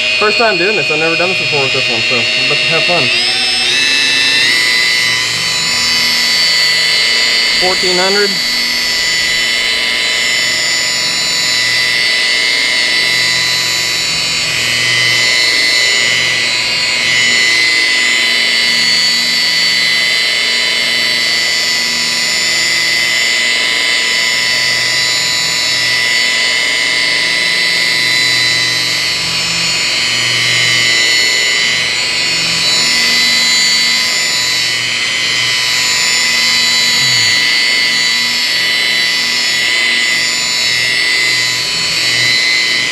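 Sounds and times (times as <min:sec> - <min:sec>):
rotary polisher motor whine: 0:00.0 - 0:42.9.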